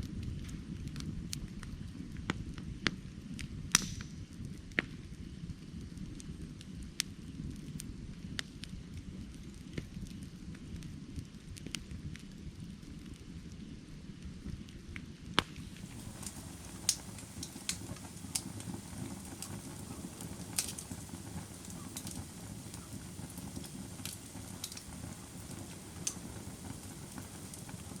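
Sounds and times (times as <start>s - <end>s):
fire crackling and popping: 0.0s - 28.0s
fire rumbling: 0.0s - 28.0s.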